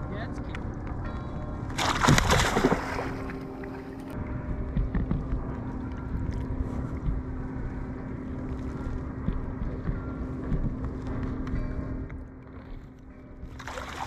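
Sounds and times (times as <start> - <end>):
wind buffeting microphone: 0.0 - 13.6
steady low hum: 0.0 - 14.0.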